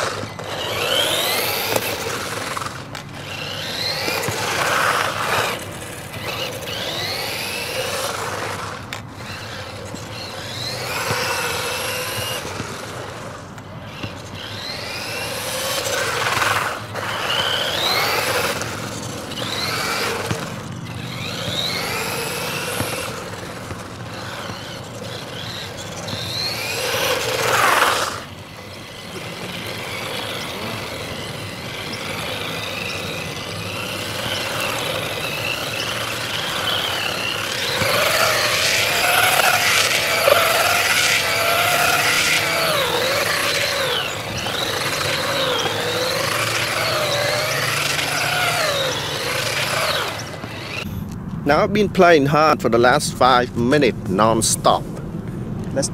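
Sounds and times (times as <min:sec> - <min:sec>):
electric motor whining: 0:00.0 - 0:50.9
tyres rushing on asphalt: 0:00.0 - 0:55.9.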